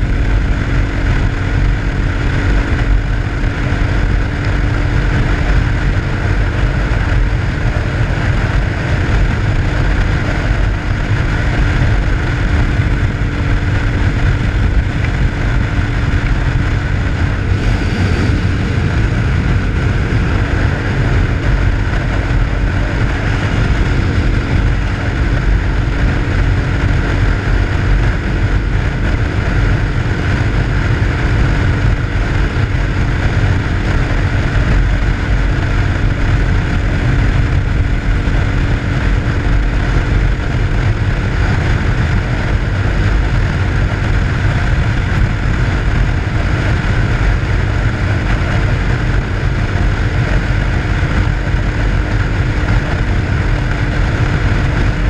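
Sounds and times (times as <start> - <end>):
motorcycle engine cruising: 0.0 - 55.0
wind rushing over microphone: 0.0 - 55.0.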